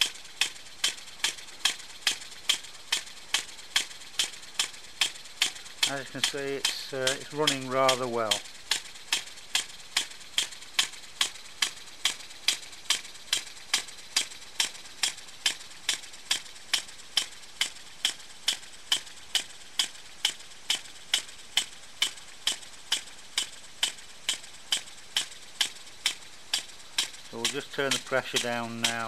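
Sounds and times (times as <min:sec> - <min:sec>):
model engine clicking: 0:00.0 - 0:29.0.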